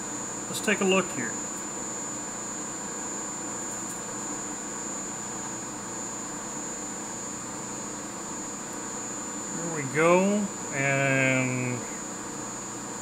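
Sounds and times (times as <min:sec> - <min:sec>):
lathe humming with high whine: 0:00.0 - 0:13.0.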